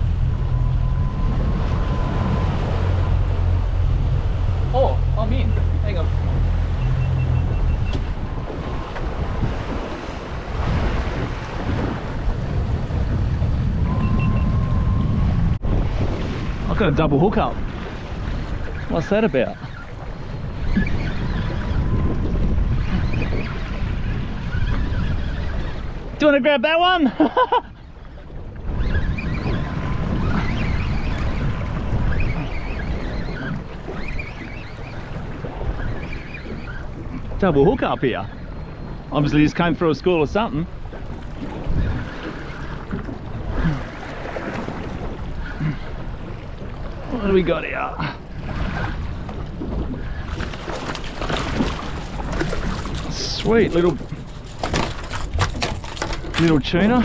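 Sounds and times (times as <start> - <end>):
outboard motor running: 0.0 - 26.4, 27.6 - 57.0
wind buffeting microphone: 0.0 - 26.4, 27.4 - 57.0
boat wake rushing: 0.0 - 57.0.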